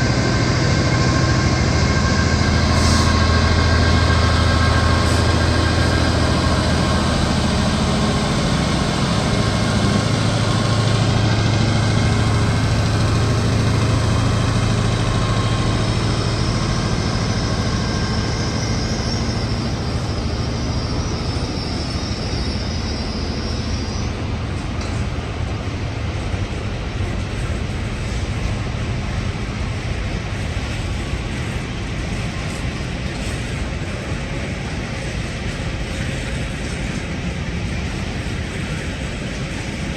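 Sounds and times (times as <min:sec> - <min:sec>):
high-pitched whine: 0:00.0 - 0:39.9
train engine hum: 0:00.0 - 0:39.9.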